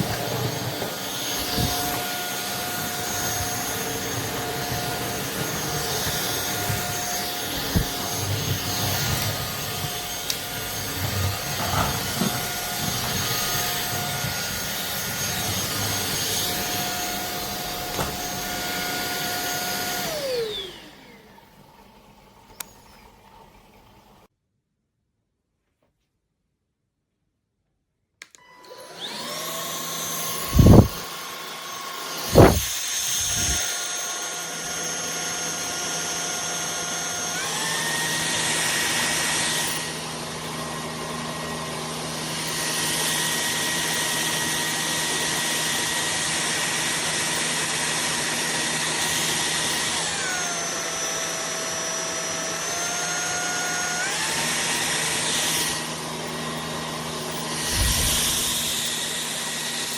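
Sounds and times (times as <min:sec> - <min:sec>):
vacuum cleaner motor whining: 0:00.0 - 0:24.3, 0:28.2 - 0:59.9.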